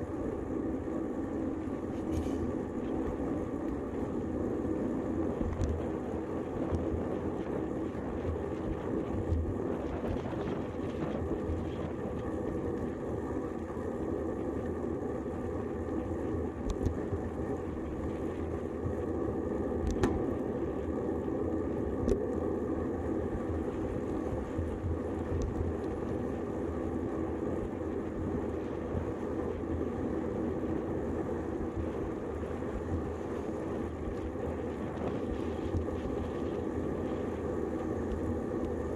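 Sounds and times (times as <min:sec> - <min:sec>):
bicycle tyres rolling on asphalt: 0:00.0 - 0:38.9
wind: 0:00.0 - 0:38.9.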